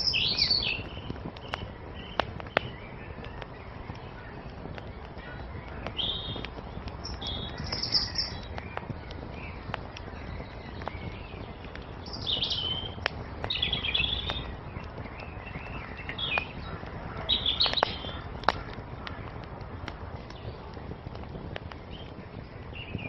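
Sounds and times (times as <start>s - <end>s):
songbirds chirping: 0.0s - 23.0s
wood fire crackling: 0.0s - 23.0s.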